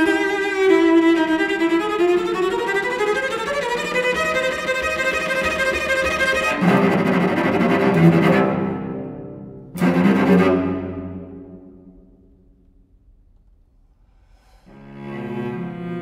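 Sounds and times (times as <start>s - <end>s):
bowed cello: 0.0s - 12.7s, 14.0s - 16.0s.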